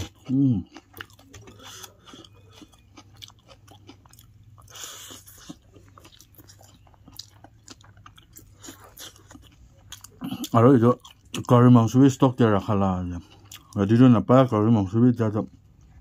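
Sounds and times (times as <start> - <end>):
person chewing food: 0.0 - 11.7, 12.8 - 13.9
low steady hum: 0.0 - 16.0.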